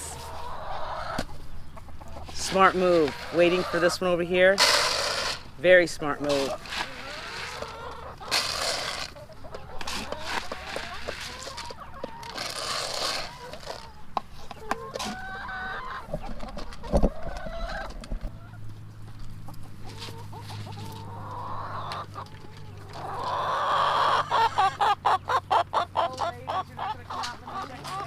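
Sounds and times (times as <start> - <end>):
chickens clucking and calling: 0.0 - 28.0.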